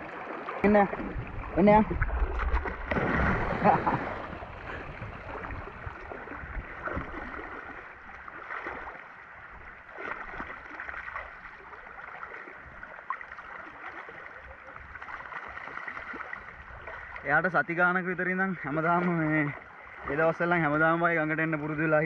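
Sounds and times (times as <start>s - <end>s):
river water sloshing: 0.0s - 22.0s
small water splashes: 0.0s - 22.0s.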